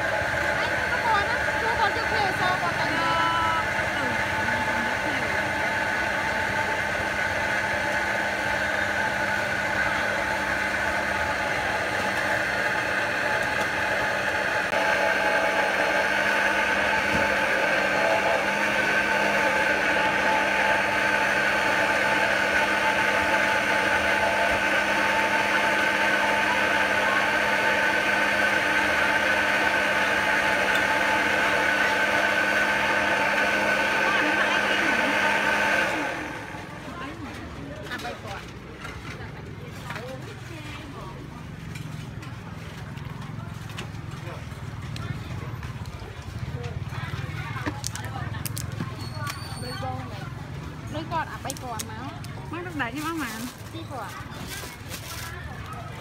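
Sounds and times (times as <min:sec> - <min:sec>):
blenders running: 0:00.0 - 0:56.0.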